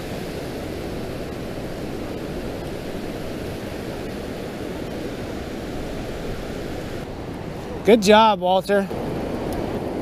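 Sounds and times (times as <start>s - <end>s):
wind on microphone: 0.0s - 7.9s, 8.8s - 10.0s
ocean surf breaking: 0.0s - 10.0s.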